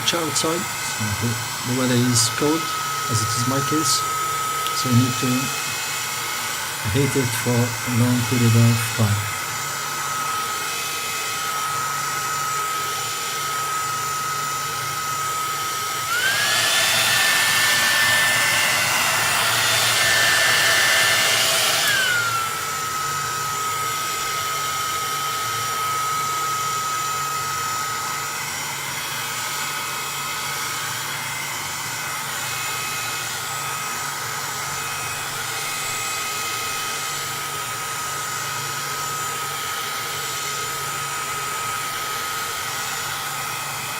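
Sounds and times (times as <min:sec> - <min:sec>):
heat gun blower whine: 0:00.0 - 0:43.9.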